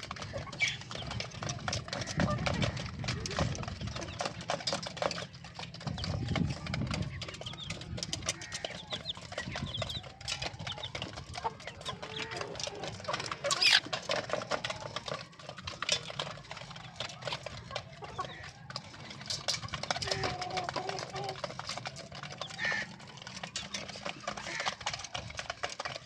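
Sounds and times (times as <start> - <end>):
chicks peeping: 0.0 - 26.0
hens clucking: 0.0 - 26.0
quick taps and scratches: 0.0 - 26.0.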